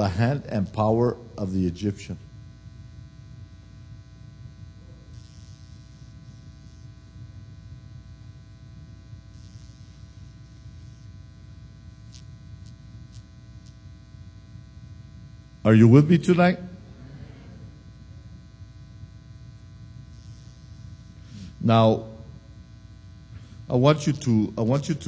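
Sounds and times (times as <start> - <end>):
electrical buzz and mains hum: 0.0 - 25.0.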